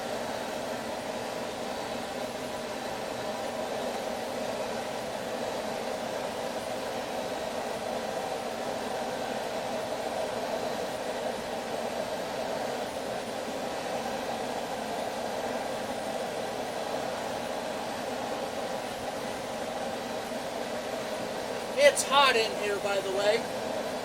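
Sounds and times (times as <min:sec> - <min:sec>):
gas forge burner roaring: 0:00.0 - 0:24.0.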